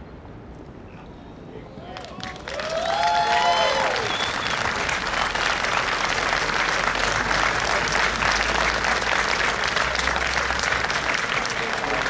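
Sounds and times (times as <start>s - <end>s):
crowd applauding: 1.9s - 12.0s.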